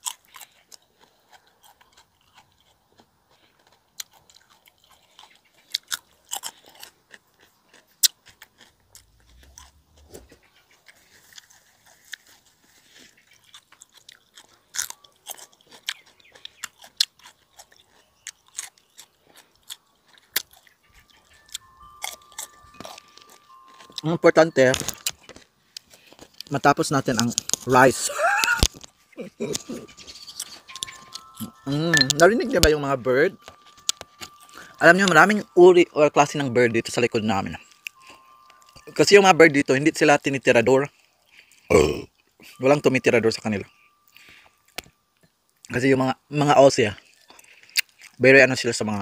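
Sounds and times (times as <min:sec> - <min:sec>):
chewing crunchy cucumber: 0:00.0 - 0:39.2, 0:39.9 - 0:48.3.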